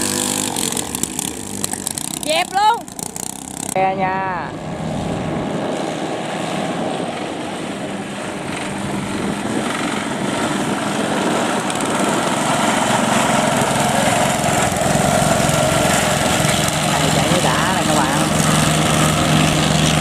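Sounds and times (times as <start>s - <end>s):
racing boat engines: 0.0s - 20.0s.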